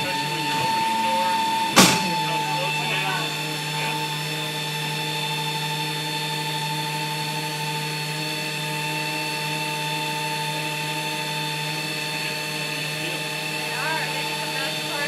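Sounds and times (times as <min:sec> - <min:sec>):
aircraft machinery hum and whine: 0:00.0 - 0:15.0.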